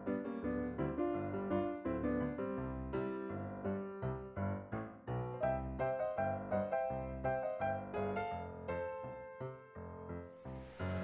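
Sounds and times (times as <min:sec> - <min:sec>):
light piano tune: 0:00.0 - 0:11.0.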